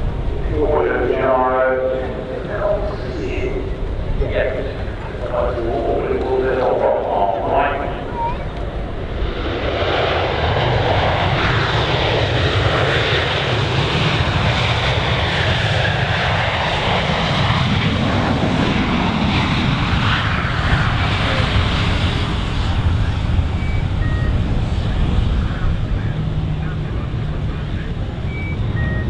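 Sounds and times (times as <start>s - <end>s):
jet aircraft passing close: 0.0s - 29.0s.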